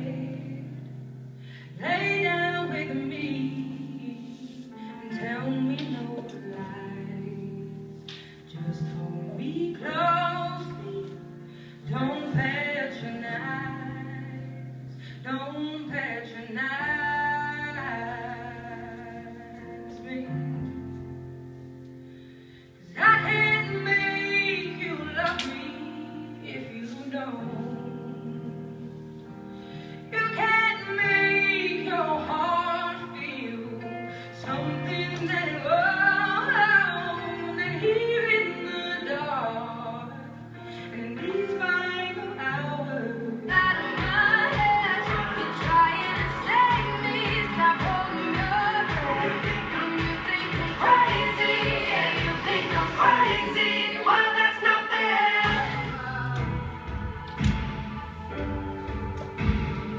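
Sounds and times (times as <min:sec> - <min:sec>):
song with singing voice: 0:00.0 - 0:59.9.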